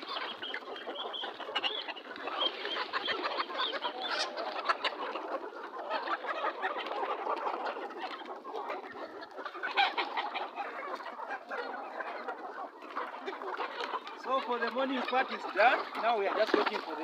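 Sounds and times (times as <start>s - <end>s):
chickens clucking and chirping: 0.0s - 17.0s.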